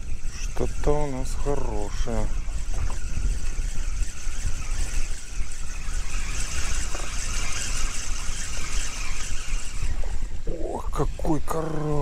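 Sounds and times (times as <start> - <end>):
fishing reel whirring: 0.0 - 12.0
wind buffeting microphone: 0.0 - 12.0.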